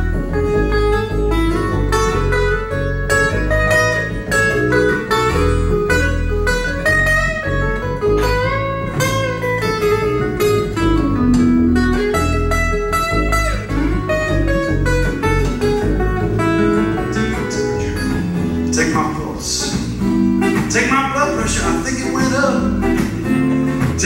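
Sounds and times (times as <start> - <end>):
acoustic guitar picking quick notes: 0.0 - 24.0
upright bass plucking low notes: 0.0 - 24.0.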